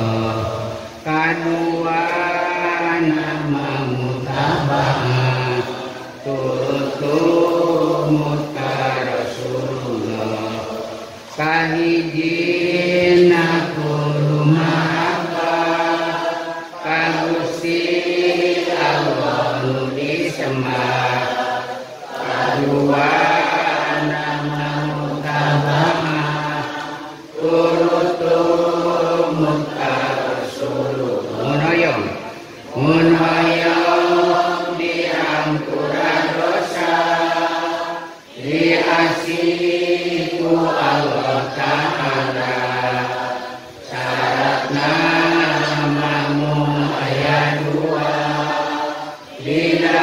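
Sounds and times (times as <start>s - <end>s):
men chanting together: 0.0s - 50.0s.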